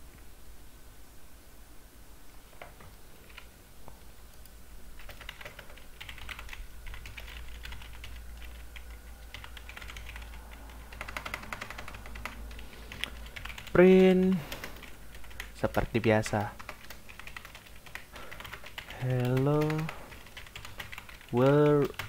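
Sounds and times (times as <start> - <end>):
typing on computer keyboard: 4.3 - 22.0.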